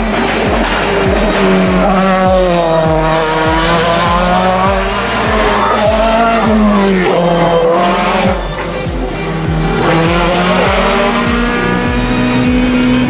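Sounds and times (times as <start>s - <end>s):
music with steady beat: 0.0s - 13.0s
racing car engine at speed: 0.0s - 13.0s.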